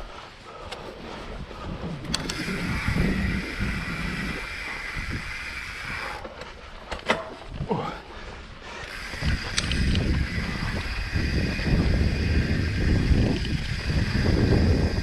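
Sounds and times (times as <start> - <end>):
tyre and wind rumble: 0.0 - 15.0
bike knocking and rattling: 1.6 - 7.6, 8.7 - 15.0.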